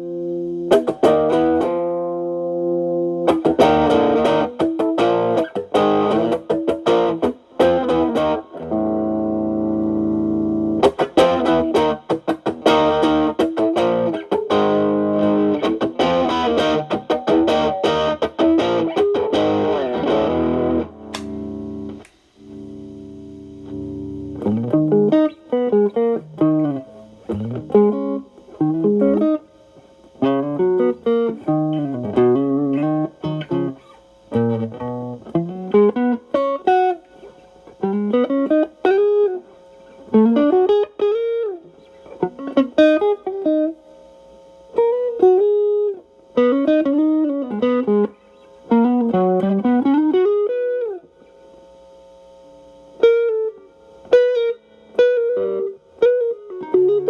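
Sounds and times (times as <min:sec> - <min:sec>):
electric guitar lead phrases: 0:00.0 - 0:57.0.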